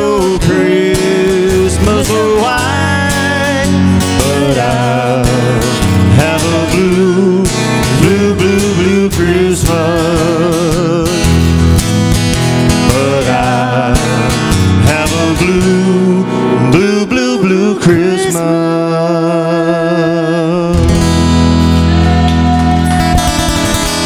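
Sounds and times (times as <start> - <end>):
person singing wordless notes: 0.0 - 11.3, 12.8 - 21.0
strummed acoustic guitar: 0.0 - 24.0.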